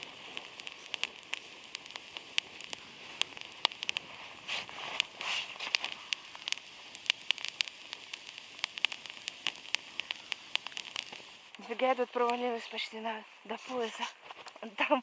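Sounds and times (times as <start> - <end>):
fire hissing surge: 0.0 - 12.9
campfire crackling and popping: 0.0 - 15.0.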